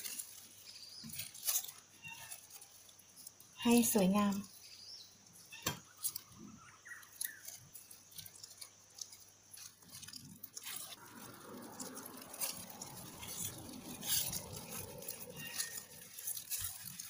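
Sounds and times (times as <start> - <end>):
plastic gloves crinkling: 0.0 - 17.0.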